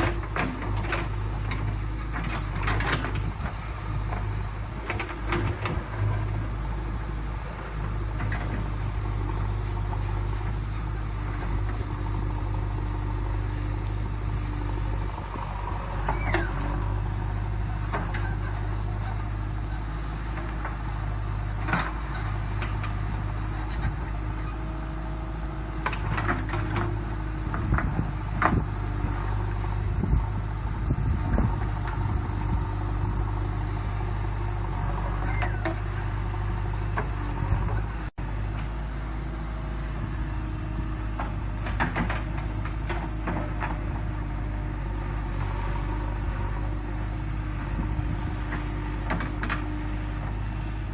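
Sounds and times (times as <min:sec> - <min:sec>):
backhoe diesel engine running: 0:00.0 - 0:50.9.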